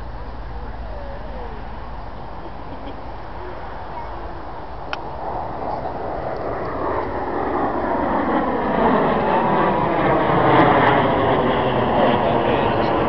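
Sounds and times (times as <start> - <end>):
jet engines overhead: 0.0 - 13.0.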